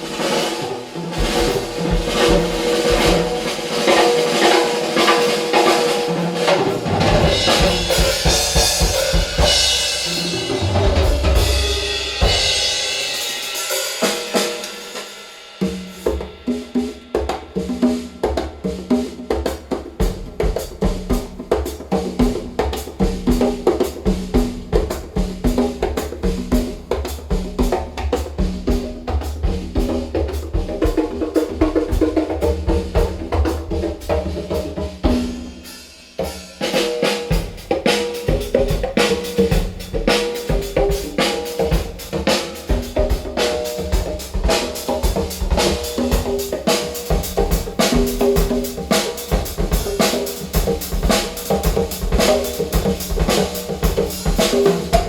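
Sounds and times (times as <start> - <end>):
drum kit percussion track: 0.0 - 55.0.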